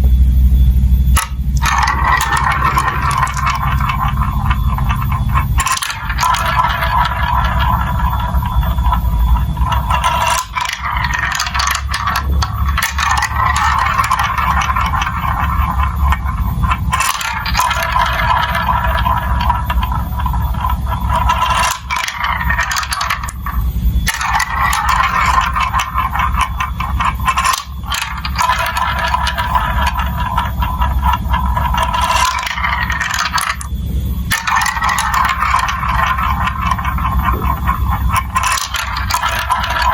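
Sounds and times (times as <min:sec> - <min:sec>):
marbles rattling through plastic run: 0:01.1 - 0:39.9.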